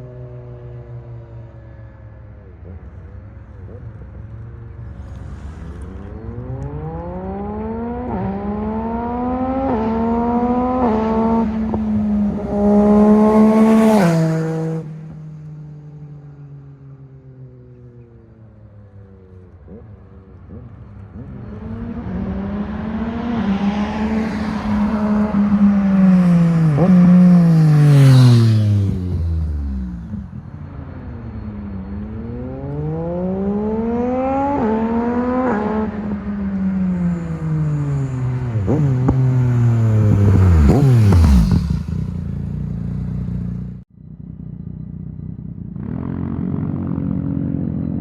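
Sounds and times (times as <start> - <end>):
motorcycle accelerating past: 3.7 - 48.0.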